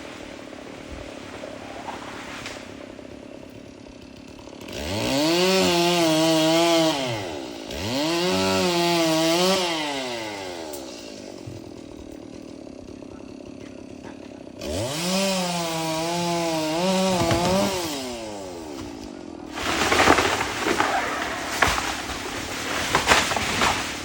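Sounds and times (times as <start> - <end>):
chainsaw cutting wood with cracks: 0.0 - 24.0
chainsaw idling and revving: 0.0 - 24.0.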